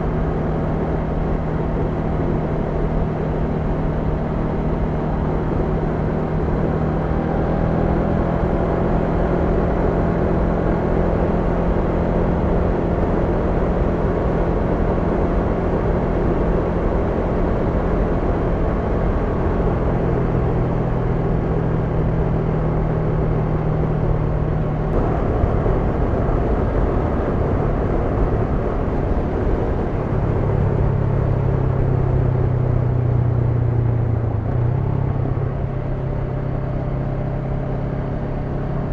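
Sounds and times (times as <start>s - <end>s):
motorcycle engine running: 0.0s - 38.9s
road noise: 0.0s - 38.9s
wind noise: 5.1s - 36.6s.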